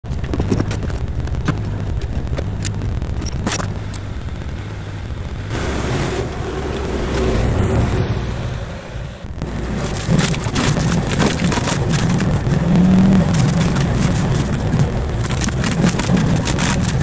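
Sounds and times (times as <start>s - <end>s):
excavator diesel engine rumble: 0.0s - 17.0s
faint steady whine: 0.1s - 17.0s.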